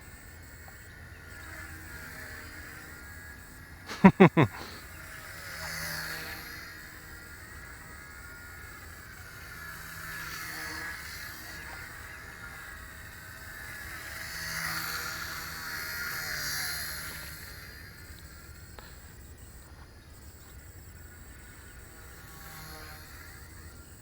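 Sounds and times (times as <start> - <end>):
toy helicopter motor whine: 0.0 - 24.0.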